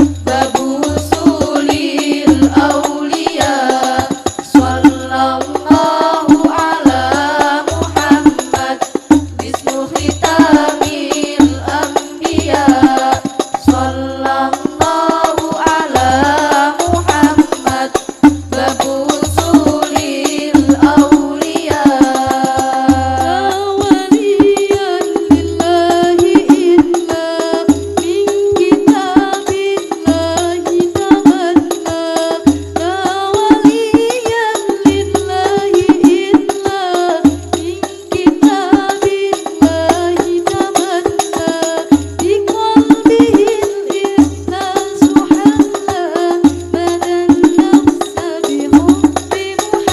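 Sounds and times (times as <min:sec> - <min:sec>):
voices singing: 0:00.0 - 0:49.9.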